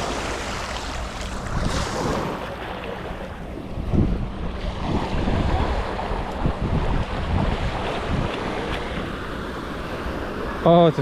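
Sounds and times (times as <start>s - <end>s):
wind buffeting microphone: 0.0s - 10.7s
ocean surf washing up beach: 0.0s - 11.0s.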